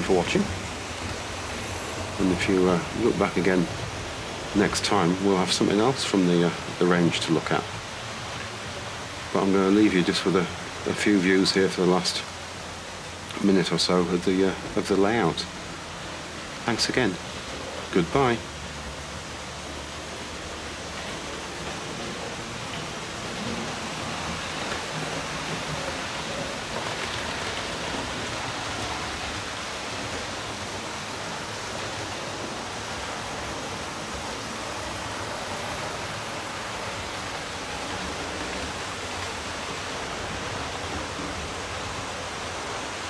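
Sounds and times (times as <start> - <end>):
model trains whirring on track: 0.0 - 11.0, 18.5 - 43.0.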